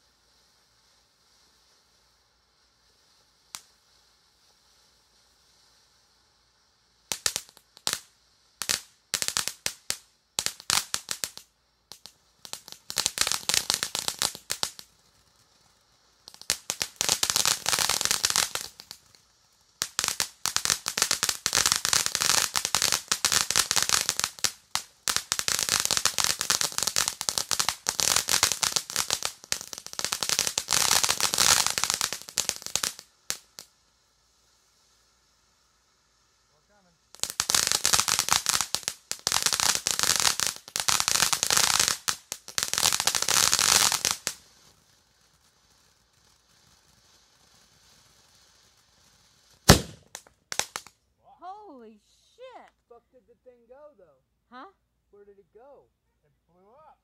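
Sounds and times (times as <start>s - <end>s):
firework crackling pops: 0.0s - 53.8s.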